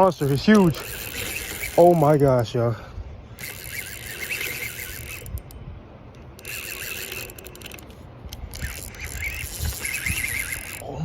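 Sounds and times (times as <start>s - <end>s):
fishing reel drag ratcheting: 0.0s - 2.5s, 3.3s - 11.0s.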